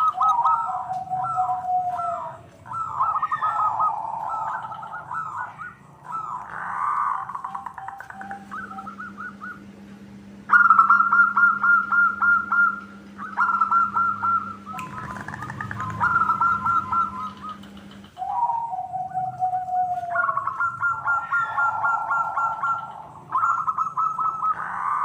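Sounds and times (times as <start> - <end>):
dove cooing: 0.0 - 25.0
steady low hum: 0.0 - 25.0.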